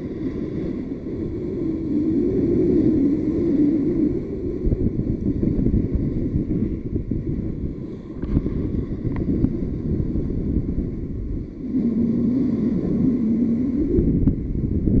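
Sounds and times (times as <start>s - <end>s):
wavering low hum: 0.0s - 15.0s
wind buffeting microphone: 0.0s - 15.0s.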